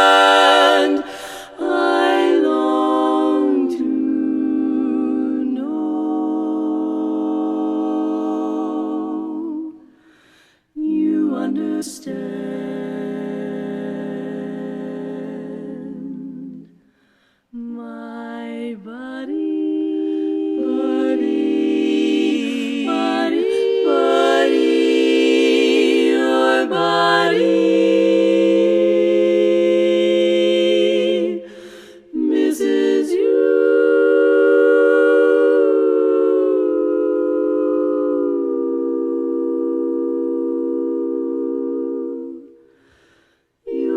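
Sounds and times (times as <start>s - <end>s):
vocal ensemble singing harmony: 0.0s - 43.9s.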